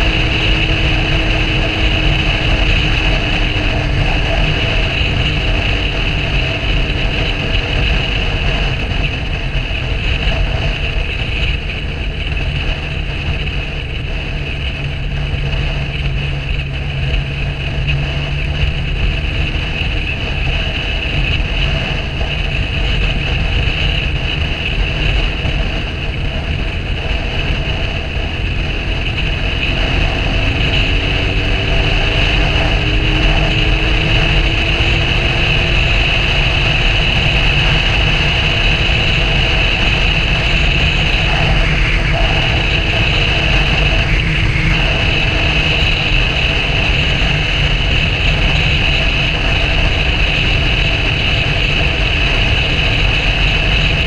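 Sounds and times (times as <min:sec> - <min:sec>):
vehicle engine running: 0:00.0 - 0:54.0
wind and road noise: 0:00.0 - 0:54.0.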